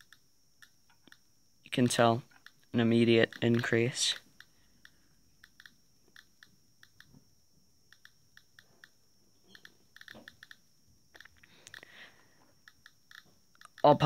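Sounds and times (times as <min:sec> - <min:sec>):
geiger counter clicking: 0:00.0 - 0:14.0.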